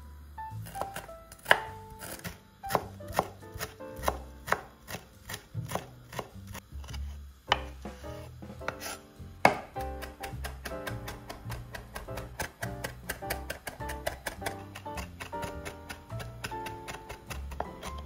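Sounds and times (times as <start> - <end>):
soft background music: 0.0 - 18.0
knife chopping on cutting board: 0.6 - 18.0.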